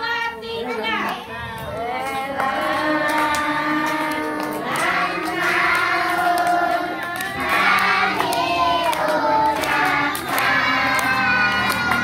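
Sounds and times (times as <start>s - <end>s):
children singing together: 1.6s - 12.0s
hands clapping: 2.0s - 12.0s.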